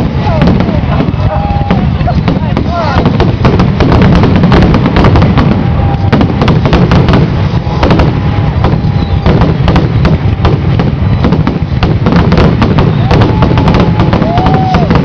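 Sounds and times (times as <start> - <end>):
fireworks bangs and crackles: 0.0 - 15.0
heavy rumble of fireworks: 0.0 - 15.0.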